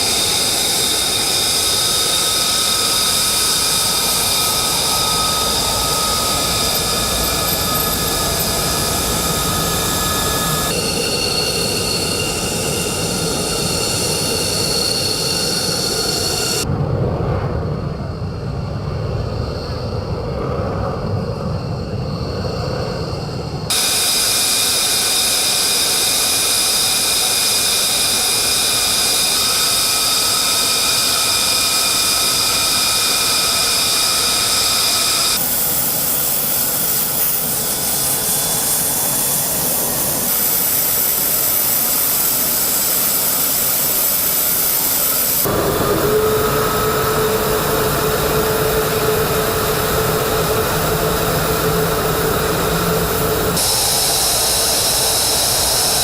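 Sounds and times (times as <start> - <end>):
jet engine running: 0.0 - 56.0.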